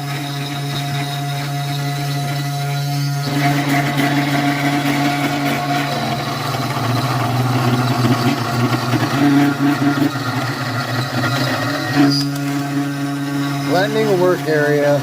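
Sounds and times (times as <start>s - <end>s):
bit cutting wood: 0.0s - 15.0s
router spindle humming: 0.0s - 15.0s.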